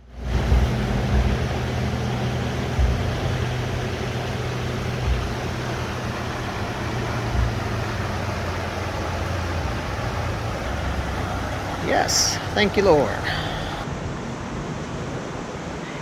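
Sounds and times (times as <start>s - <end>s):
creek water rushing: 0.0s - 13.9s
low thumps: 0.1s - 13.8s.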